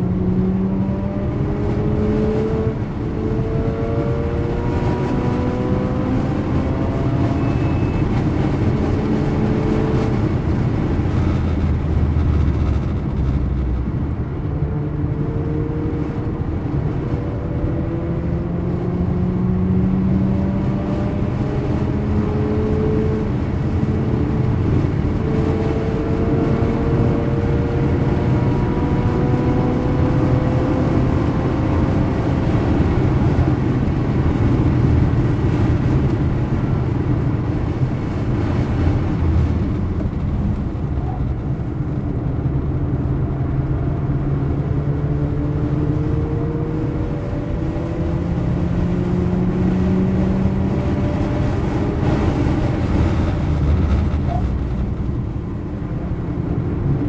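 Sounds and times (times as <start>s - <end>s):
road and tyre noise: 0.0s - 57.0s
rotary engine accelerating: 0.0s - 57.0s.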